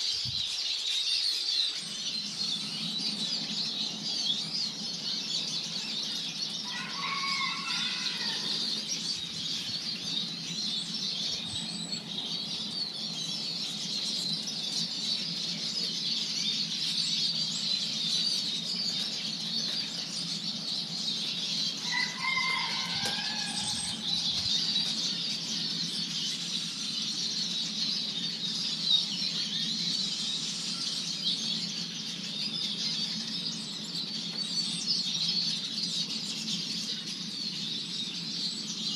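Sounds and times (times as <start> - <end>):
songbirds twittering: 0.0 - 38.9.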